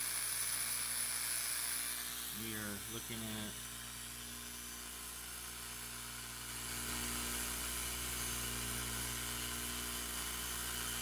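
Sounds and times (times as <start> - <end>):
blower motor running: 0.0 - 11.0.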